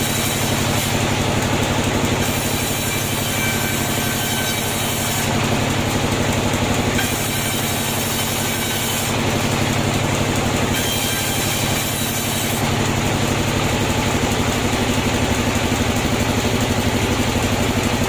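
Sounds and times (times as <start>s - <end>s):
sawmill machinery drone: 0.0s - 18.0s.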